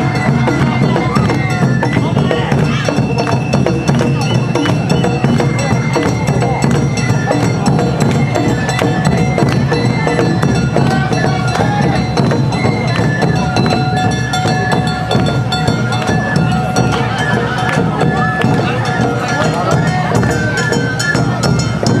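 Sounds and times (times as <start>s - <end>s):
bamboo flutes: 0.0s - 22.0s
drum beat: 0.0s - 22.0s.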